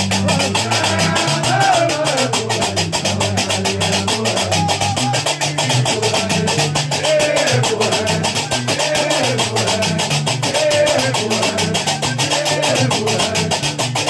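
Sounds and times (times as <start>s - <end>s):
plucked bass lute: 0.0s - 14.0s
voices singing a chant: 0.2s - 14.0s.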